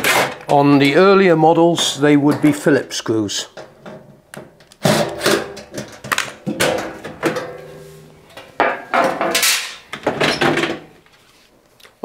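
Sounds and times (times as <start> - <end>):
plastic panels knocking and scraping: 0.0 - 2.8, 3.5 - 11.0.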